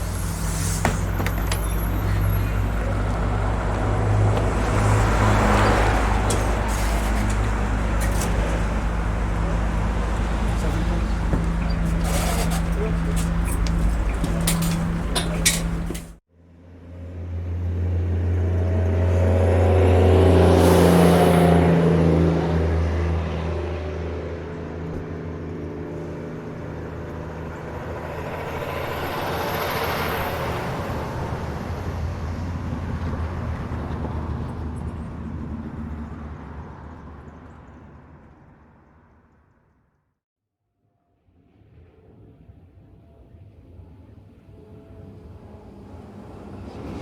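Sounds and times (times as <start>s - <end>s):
vehicle engine hum: 0.0s - 39.5s.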